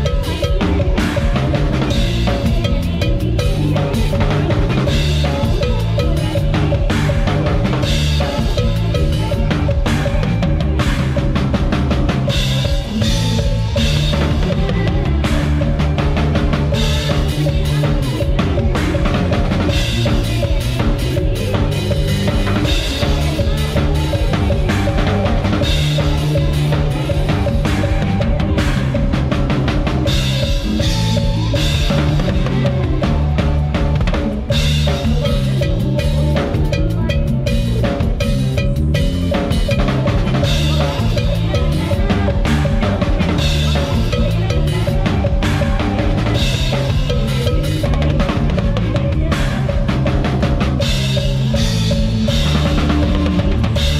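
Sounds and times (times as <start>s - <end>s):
band playing bass and instruments: 0.0s - 53.9s
drum kit played hard: 0.0s - 53.9s.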